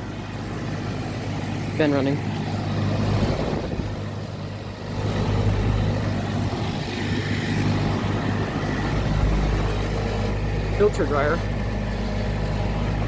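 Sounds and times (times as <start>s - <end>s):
compressor hum: 0.0s - 13.0s
condenser fans rushing: 0.0s - 13.0s.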